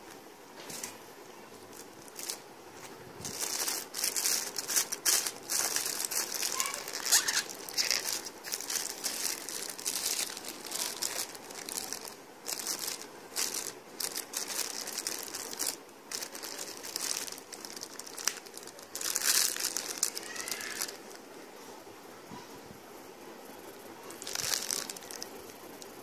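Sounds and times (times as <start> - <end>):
plastic bags crinkling: 1.6 - 21.2, 24.0 - 26.0.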